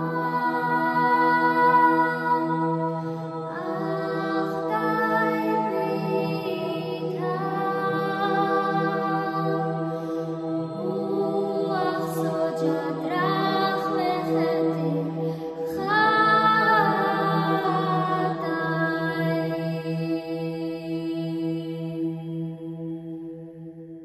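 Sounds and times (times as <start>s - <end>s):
women singing in harmony: 0.0s - 23.3s
low vocal drone: 0.0s - 24.0s.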